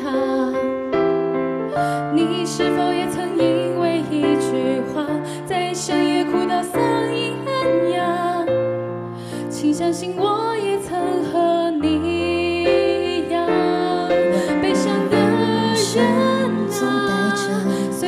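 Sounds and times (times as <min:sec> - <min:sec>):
women singing pop ballad: 0:00.0 - 0:00.9, 0:01.7 - 0:08.6, 0:09.5 - 0:18.0.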